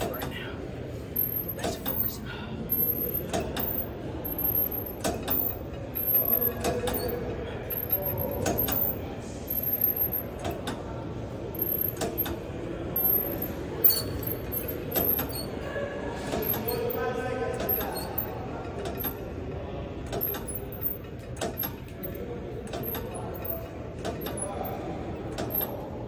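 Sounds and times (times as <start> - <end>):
weight stack clicks and clinks: 1.2 - 2.1, 2.7 - 10.8, 11.6 - 15.6, 16.3 - 17.0, 17.6 - 19.4, 20.0 - 26.0.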